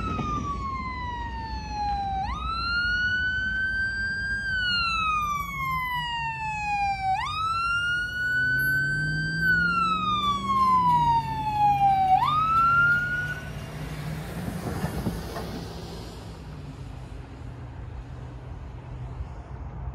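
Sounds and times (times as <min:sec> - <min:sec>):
fire truck siren wailing: 0:00.0 - 0:16.2
vehicles passing: 0:00.0 - 0:19.9.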